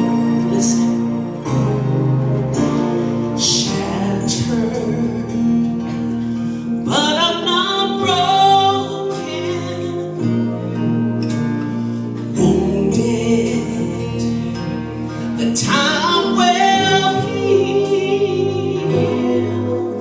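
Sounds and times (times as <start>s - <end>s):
slow inspirational song: 0.0s - 20.0s.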